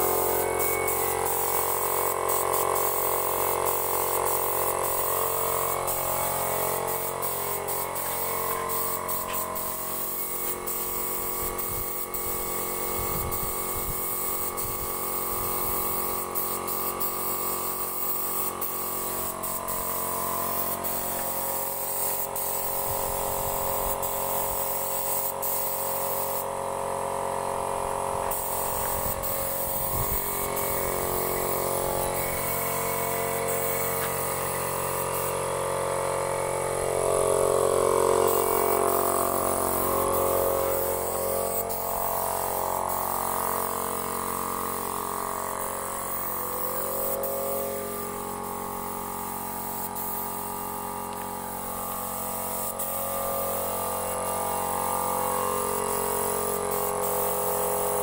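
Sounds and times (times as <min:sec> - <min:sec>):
spray gun hissing: 0:00.0 - 0:58.0.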